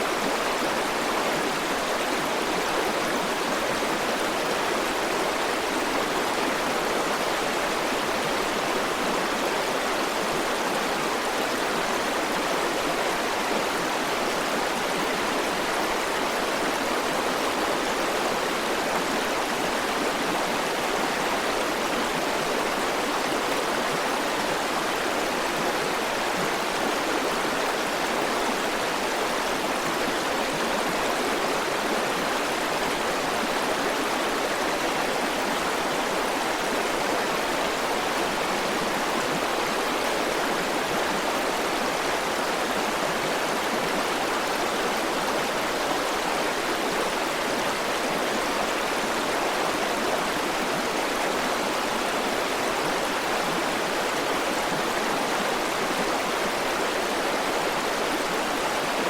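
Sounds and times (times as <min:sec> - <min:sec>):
river water flowing over rocks: 0:00.0 - 0:59.0.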